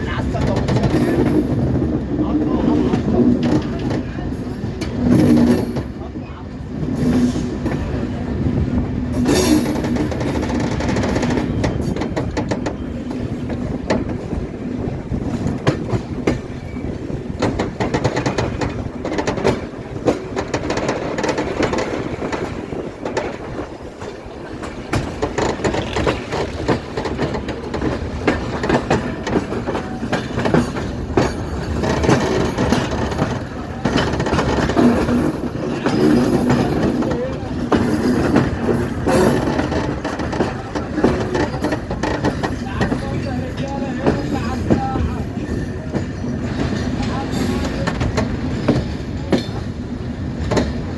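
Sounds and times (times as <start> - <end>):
train wheels clattering over rails: 0.0 - 50.9.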